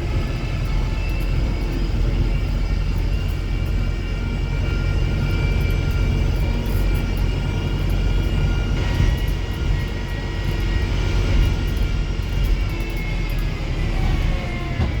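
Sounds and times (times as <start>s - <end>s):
bus drivetrain drone: 0.0s - 15.0s
high electric whines: 0.0s - 15.0s.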